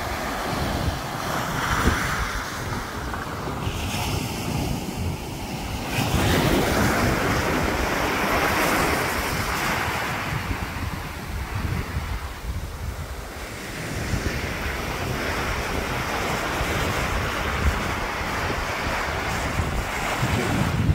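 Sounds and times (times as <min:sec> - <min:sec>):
surf washing up beach: 0:00.0 - 0:20.9
wind buffeting microphone: 0:00.0 - 0:20.9.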